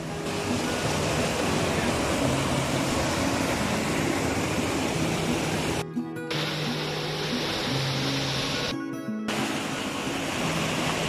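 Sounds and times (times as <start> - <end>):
water rushing over boulders: 0.0 - 8.7, 9.3 - 11.0.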